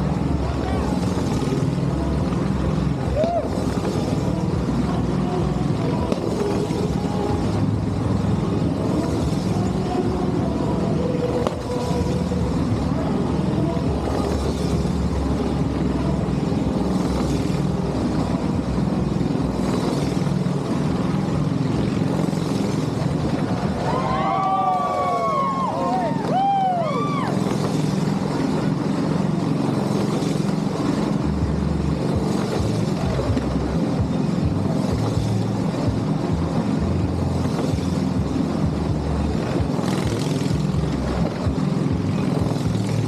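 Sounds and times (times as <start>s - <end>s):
motorcycle engine running steadily: 0.0s - 43.0s.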